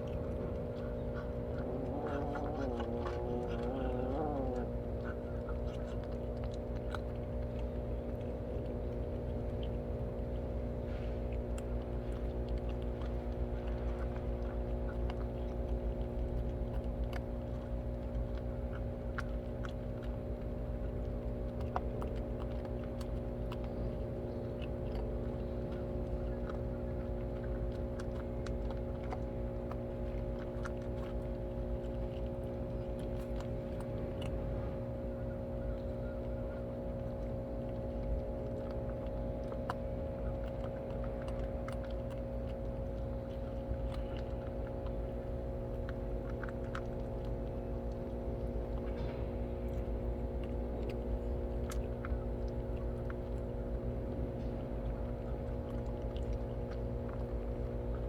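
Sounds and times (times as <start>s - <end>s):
cats crunching food: 0.0s - 58.0s
steady machine hum: 0.0s - 58.0s.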